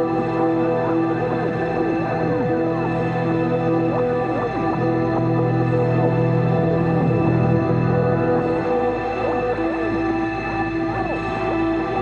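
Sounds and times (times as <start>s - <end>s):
held drone tones: 0.0s - 12.0s.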